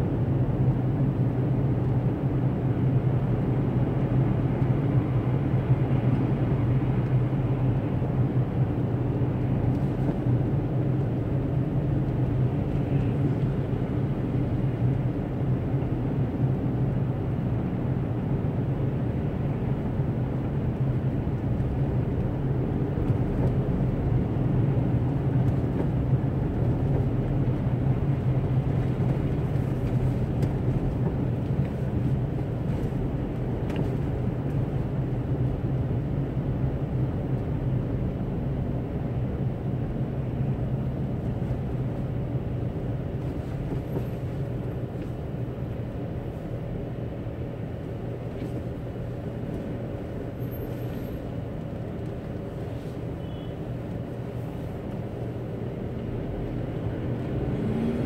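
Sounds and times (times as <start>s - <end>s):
car engine rumble from inside: 0.0s - 58.0s
tyres on snowy road: 0.0s - 58.0s.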